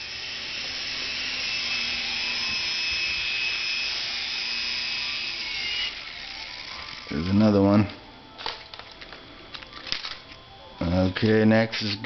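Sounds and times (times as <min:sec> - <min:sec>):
toy helicopter rotors whirring: 0:00.0 - 0:12.0.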